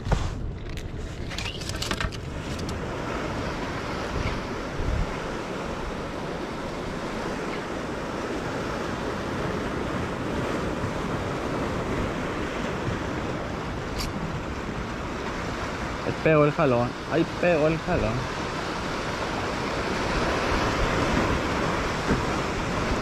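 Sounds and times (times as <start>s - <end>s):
waves breaking over rocks: 0.0s - 23.0s.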